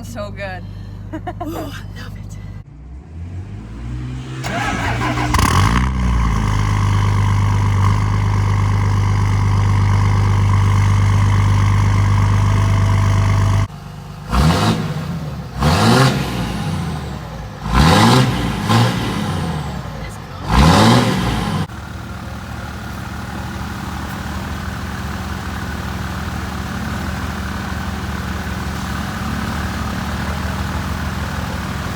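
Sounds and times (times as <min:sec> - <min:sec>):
diesel truck engine idling and revving: 0:00.0 - 0:31.9.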